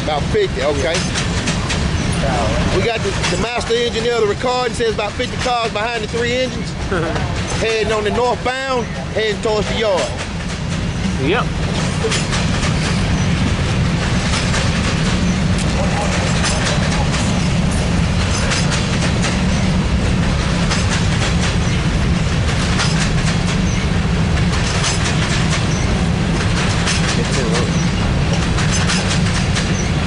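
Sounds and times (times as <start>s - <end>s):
freight train rumbling past: 0.0s - 30.0s
train wheels clacking over rail joints: 0.0s - 30.0s.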